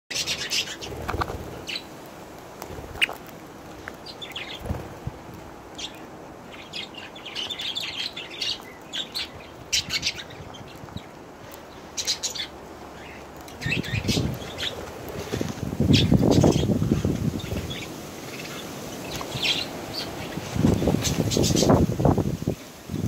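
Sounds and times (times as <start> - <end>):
budgerigars chirping and chattering: 0.1 - 1.9, 2.9 - 3.3, 4.0 - 4.8, 5.8 - 11.1, 11.7 - 21.8.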